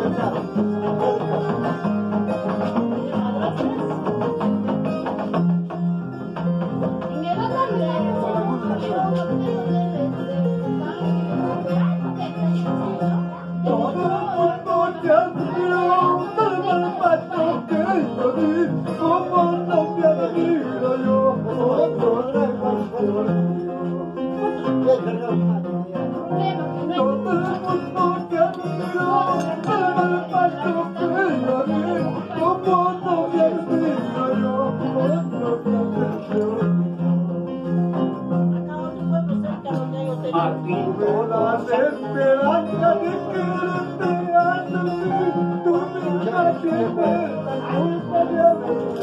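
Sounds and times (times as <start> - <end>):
person singing: 6.3 - 49.0.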